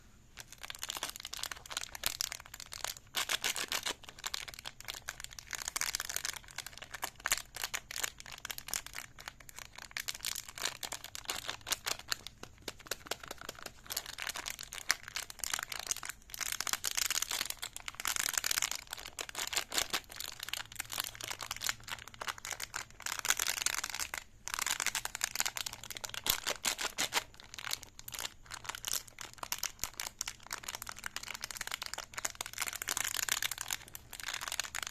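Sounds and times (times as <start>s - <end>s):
plastic wrapper crinkling: 0.0s - 34.9s.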